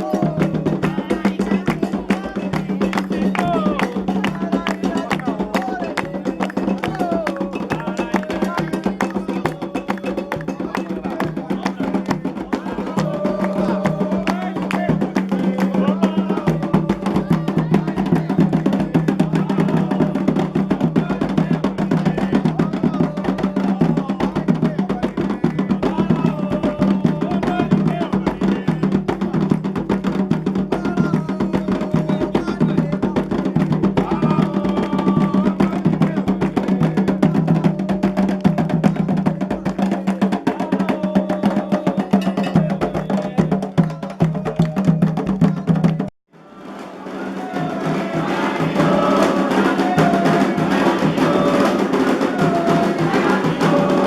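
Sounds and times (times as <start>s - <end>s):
person singing: 0.0s - 29.5s, 30.7s - 45.6s, 46.4s - 54.0s
rapid hand drumming: 0.0s - 54.0s
wood block percussion: 0.0s - 54.0s.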